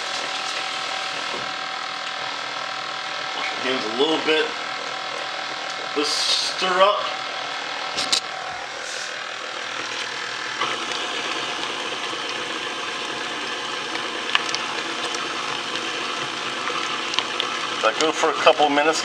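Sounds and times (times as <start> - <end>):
stand mixer motor whirring: 0.0 - 19.0.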